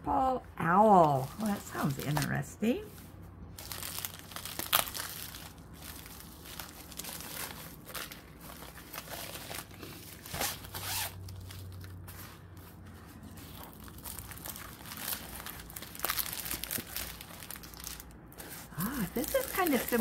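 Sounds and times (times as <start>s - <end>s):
plastic wrapping crinkling: 1.1s - 2.5s, 3.4s - 20.0s.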